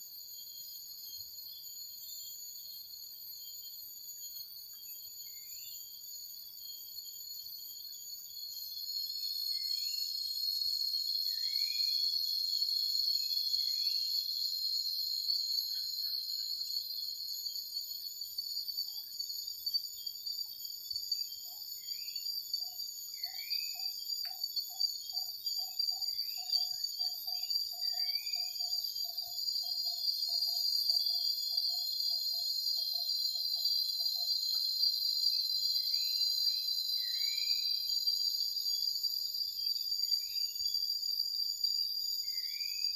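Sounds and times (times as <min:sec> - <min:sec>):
cricket trill: 0:00.0 - 0:42.9
low pulsing insect call: 0:00.0 - 0:42.9
short insect chirps: 0:00.0 - 0:42.9.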